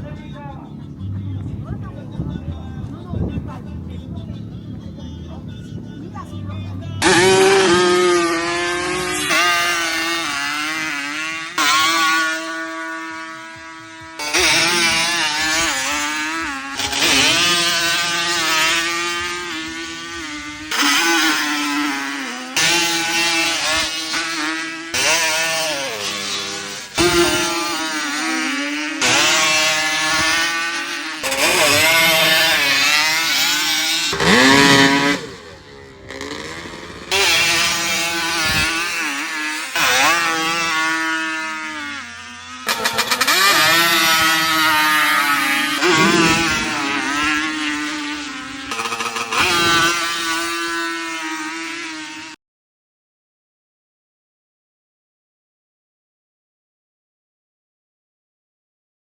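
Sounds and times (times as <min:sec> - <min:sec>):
two-stroke engine revving: 0:00.0 - 0:52.4.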